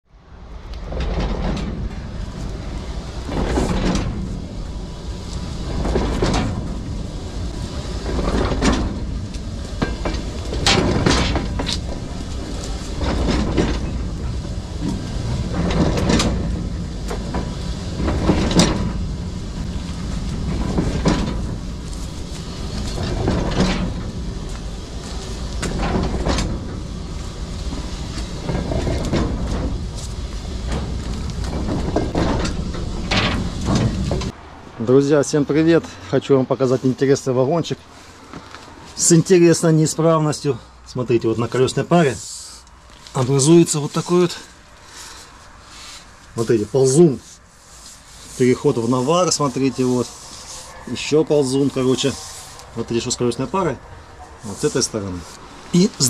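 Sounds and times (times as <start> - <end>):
freight wagon rumbling on rails: 0.1 - 56.0.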